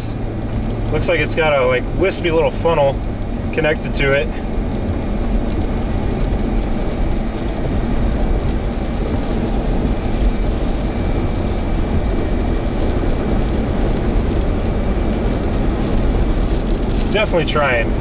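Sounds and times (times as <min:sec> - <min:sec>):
road and wind noise in vehicle: 0:00.0 - 0:18.0.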